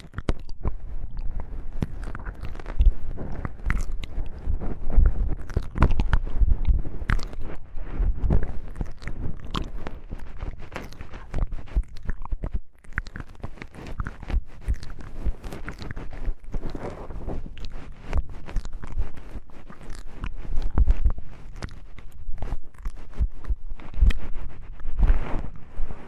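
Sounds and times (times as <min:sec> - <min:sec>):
soft low thumps: 0:00.1 - 0:12.7, 0:14.0 - 0:26.0.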